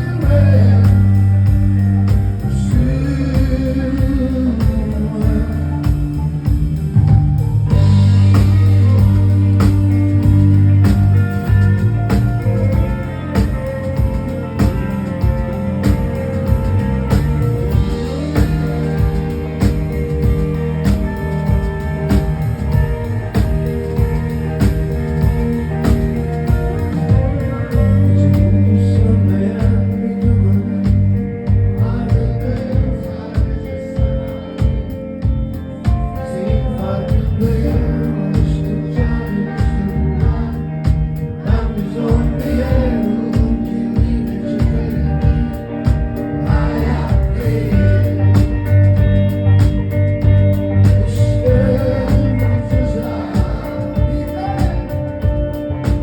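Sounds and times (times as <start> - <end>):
live band music: 0.0 - 56.0
steady drum beat: 0.0 - 56.0.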